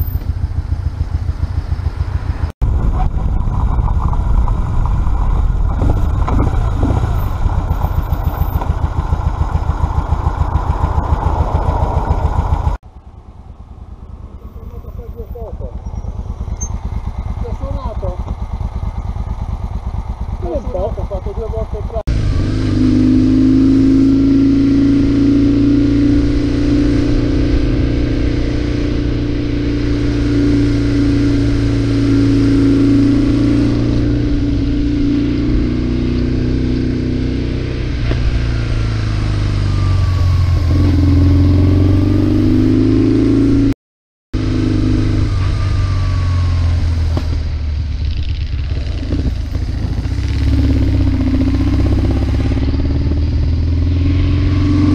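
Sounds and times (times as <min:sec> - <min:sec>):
motorcycle engine running: 0:00.0 - 0:43.7, 0:44.4 - 0:54.9
wind and road noise: 0:00.0 - 0:43.8, 0:44.4 - 0:54.9.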